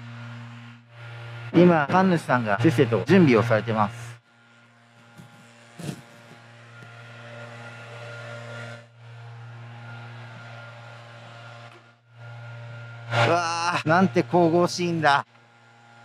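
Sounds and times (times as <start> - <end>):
floor-cleaning machine humming: 0.0 - 4.1, 4.9 - 16.0.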